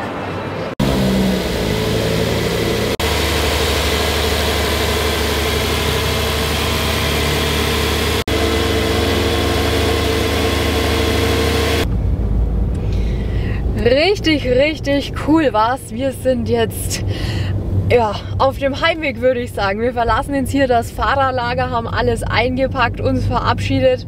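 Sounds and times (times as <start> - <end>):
car engine running: 0.7 - 24.0.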